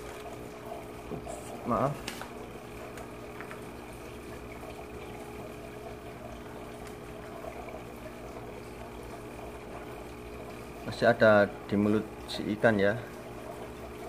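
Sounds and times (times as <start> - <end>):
aquarium equipment humming: 0.0 - 14.0
bubbling from air stones: 0.0 - 14.0.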